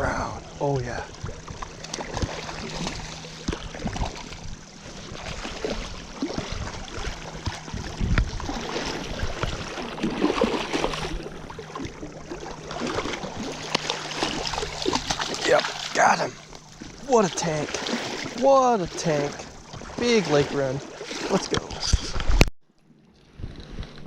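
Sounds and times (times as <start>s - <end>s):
river current flowing: 0.0s - 22.2s
fish splashing in water: 1.2s - 21.5s.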